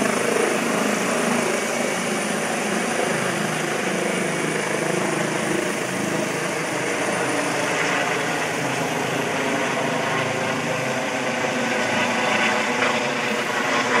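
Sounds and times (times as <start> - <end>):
helicopter rotor chopping overhead: 0.0 - 14.0.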